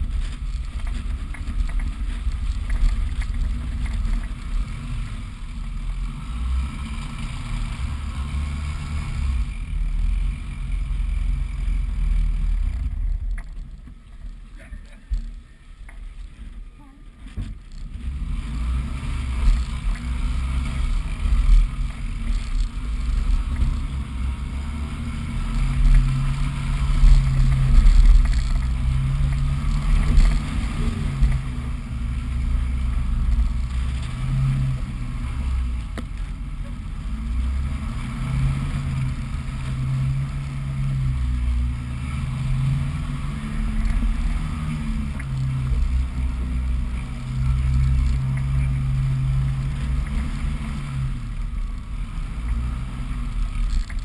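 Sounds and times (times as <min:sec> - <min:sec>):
vehicle engine rumble off-road: 0:00.0 - 0:54.0.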